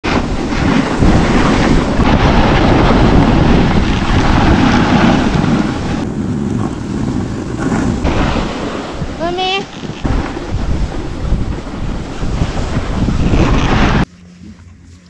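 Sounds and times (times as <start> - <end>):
wind rushing over microphone: 0.0 - 14.1
skis scraping packed snow: 0.1 - 2.0, 3.0 - 15.0.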